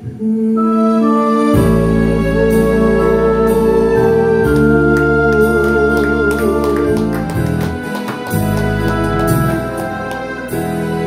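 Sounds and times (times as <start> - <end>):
digital keyboard chords: 1.0 - 11.0.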